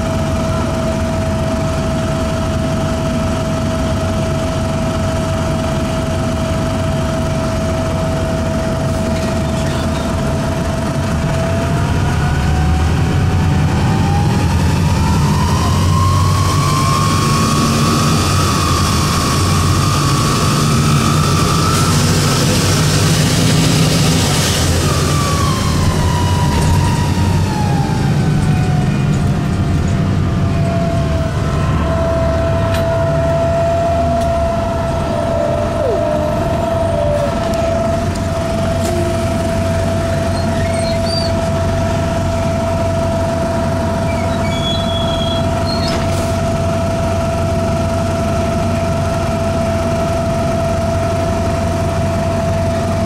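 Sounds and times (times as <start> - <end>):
bus engine running: 0.0 - 53.0
loud whine from engine: 0.0 - 53.0.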